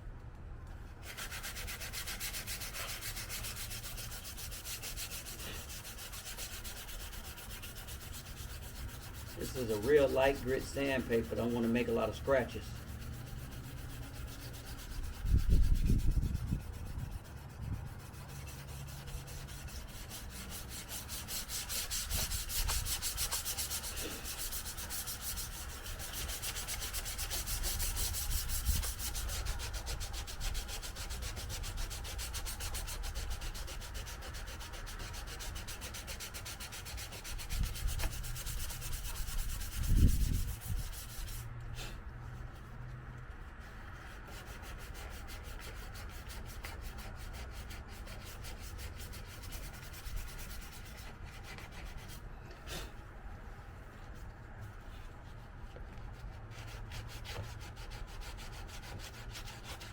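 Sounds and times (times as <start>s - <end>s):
sandpaper rubbing on metal panel: 1.0s - 42.7s, 43.3s - 53.0s, 53.9s - 59.9s.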